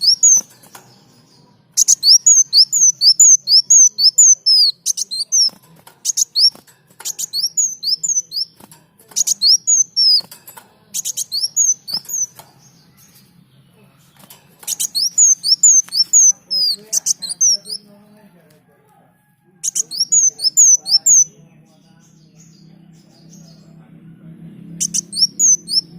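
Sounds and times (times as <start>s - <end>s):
songbird chirping: 0.0s - 25.9s.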